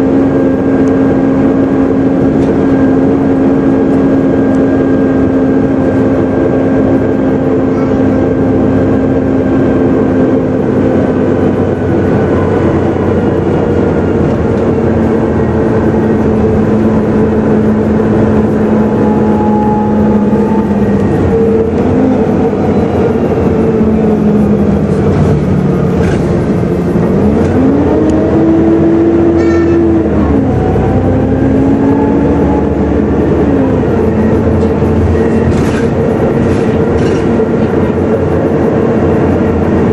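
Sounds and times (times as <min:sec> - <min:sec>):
bus engine whining: 0:00.0 - 0:39.9.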